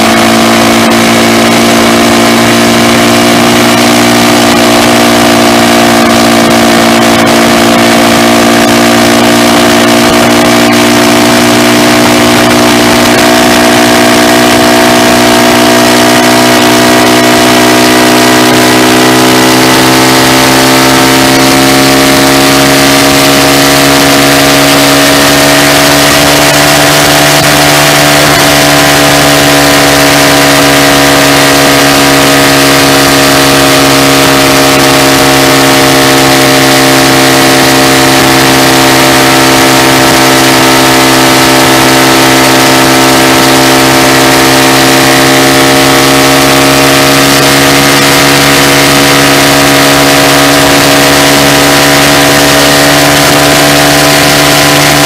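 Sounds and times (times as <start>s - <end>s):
motorcycle engine running loud: 0.0s - 55.0s.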